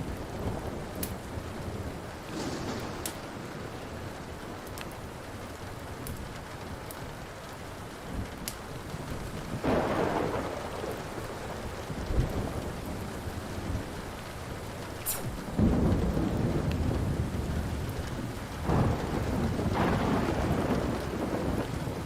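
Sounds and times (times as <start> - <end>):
steady rain: 0.0 - 22.0
thunder rumble: 0.0 - 22.0
wood fire popping: 0.9 - 11.2, 12.6 - 22.0.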